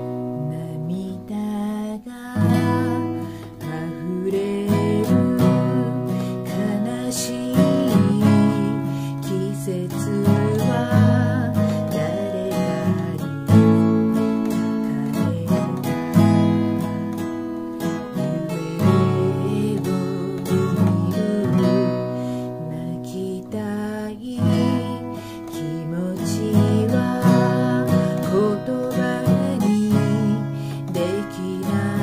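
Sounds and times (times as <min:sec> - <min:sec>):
acoustic guitar strumming: 0:00.0 - 0:32.0
woman singing: 0:00.0 - 0:32.0.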